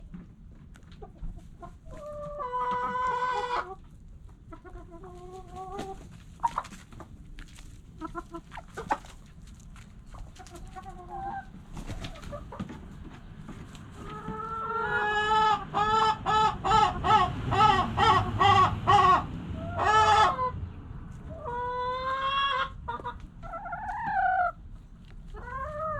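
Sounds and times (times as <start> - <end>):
chickens clucking and calling: 0.0 - 25.9.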